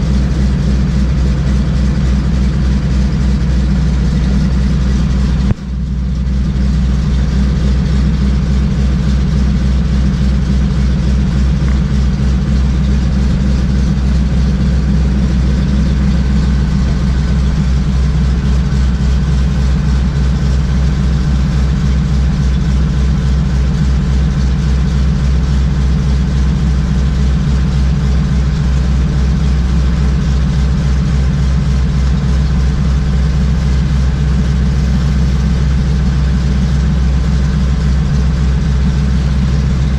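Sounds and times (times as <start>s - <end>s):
propeller engine running: 0.0s - 39.9s.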